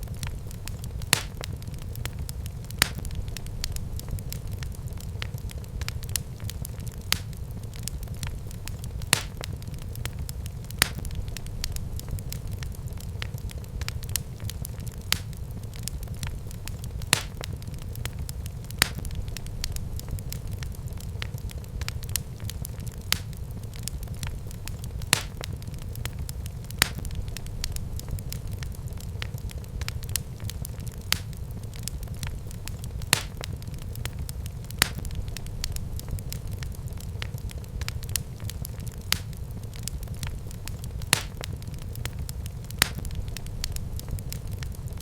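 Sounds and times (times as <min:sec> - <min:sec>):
low rumble of flames: 0:00.0 - 0:45.0
sharp pops from fire: 0:00.0 - 0:45.0
wood fire crackling: 0:00.0 - 0:45.0.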